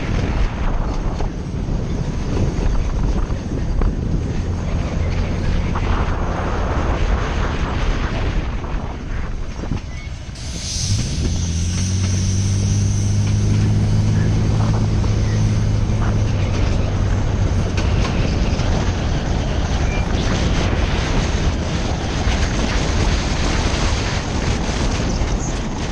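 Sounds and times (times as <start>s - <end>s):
low steady drone: 0.0s - 25.9s
road and wind noise: 0.0s - 25.9s.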